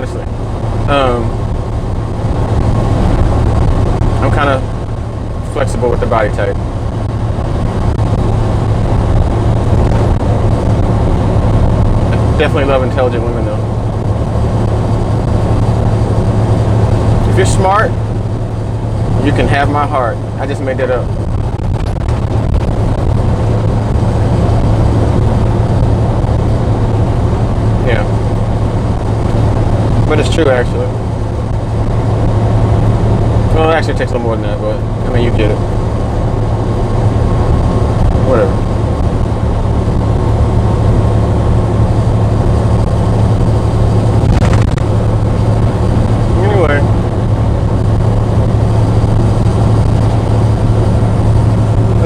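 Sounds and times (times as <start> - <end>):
constant low hum: 0.0 - 52.0
truck engine and road noise: 0.0 - 52.0.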